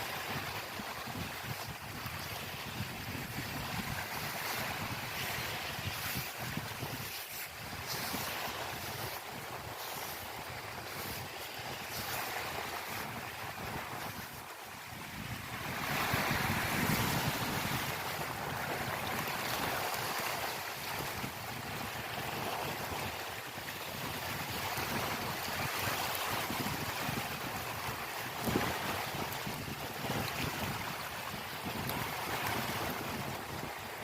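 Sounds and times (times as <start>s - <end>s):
ocean waves washing in: 0.0s - 34.0s
wind: 0.0s - 34.0s.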